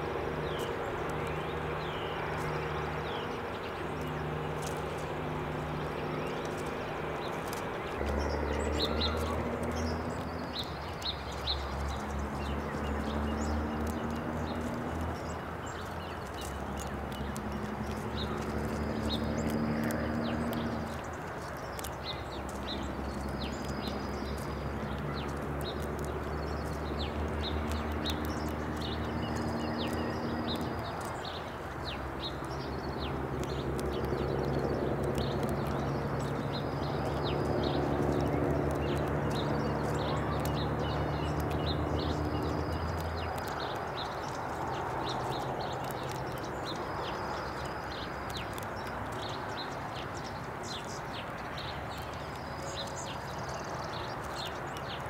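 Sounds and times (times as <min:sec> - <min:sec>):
seed shells cracking: 0:03.9 - 0:51.0.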